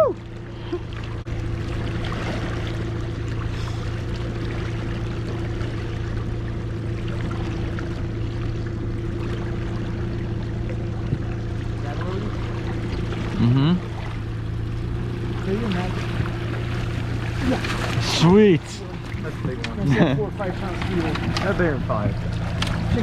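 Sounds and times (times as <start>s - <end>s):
outboard motor humming: 0.0s - 23.0s
water rushing along hull: 0.0s - 23.0s.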